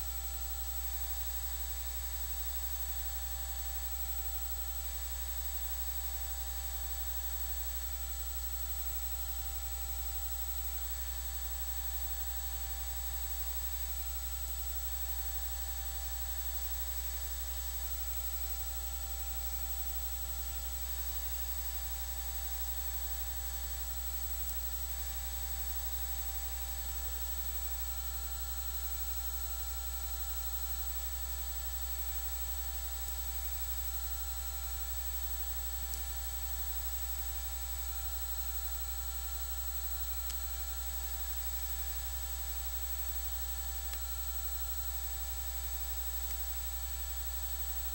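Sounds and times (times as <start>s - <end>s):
electrical hum with hiss: 0.0s - 47.9s.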